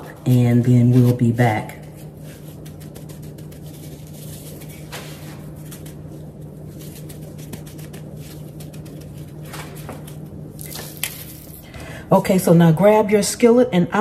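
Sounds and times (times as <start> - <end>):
gloved hands patting coating: 0.0 - 11.7
steady low hum: 0.0 - 14.0.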